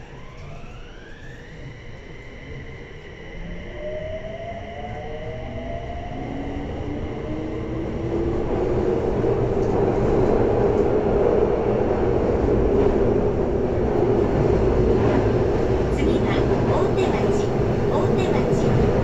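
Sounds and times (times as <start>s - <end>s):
train wheels rumbling in tunnel: 0.0s - 19.0s.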